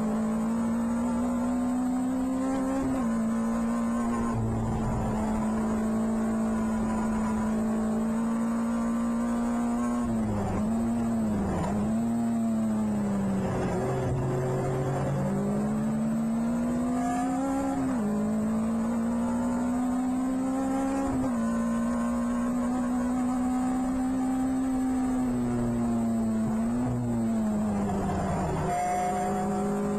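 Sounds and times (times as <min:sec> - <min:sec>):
race car engine at high revs: 0:00.0 - 0:29.9
road noise: 0:00.0 - 0:29.9.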